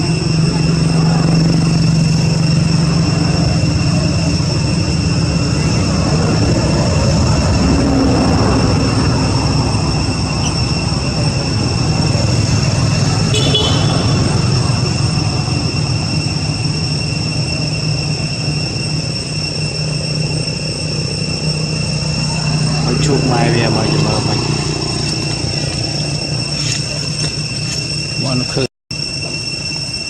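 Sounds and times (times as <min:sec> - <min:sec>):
low vehicle rumble: 0:00.0 - 0:28.6
high whining tones: 0:00.0 - 0:30.0.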